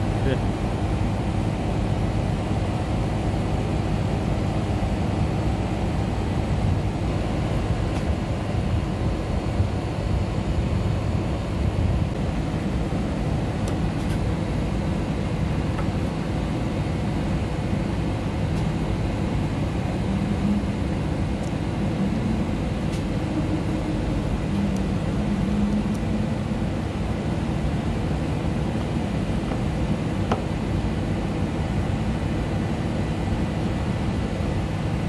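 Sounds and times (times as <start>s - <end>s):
faint hum: 0.0s - 35.0s
machinery drone: 0.0s - 35.0s.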